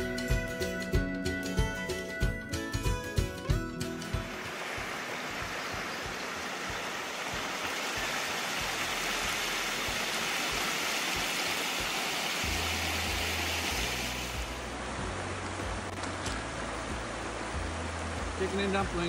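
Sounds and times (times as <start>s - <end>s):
river water rushing over shallows: 3.3s - 19.0s.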